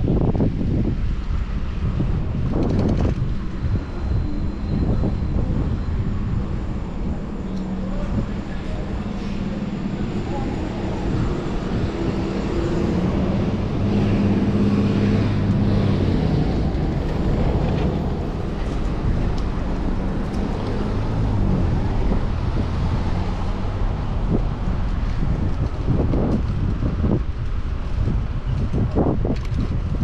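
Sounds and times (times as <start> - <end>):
street traffic: 0.0 - 30.0
wind on microphone: 0.0 - 30.0
vehicle engine running: 1.4 - 30.0.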